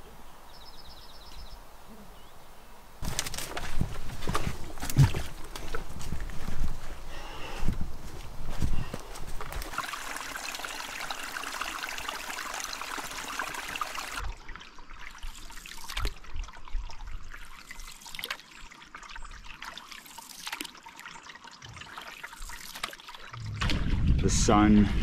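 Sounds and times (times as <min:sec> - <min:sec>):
water trickling and lapping: 0:03.1 - 0:24.2.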